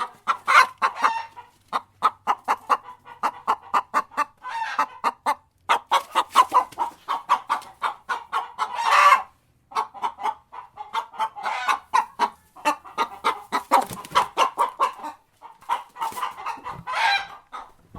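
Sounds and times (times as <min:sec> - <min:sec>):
chicken squawk: 0:00.0 - 0:17.7
chickens clucking: 0:00.0 - 0:17.9.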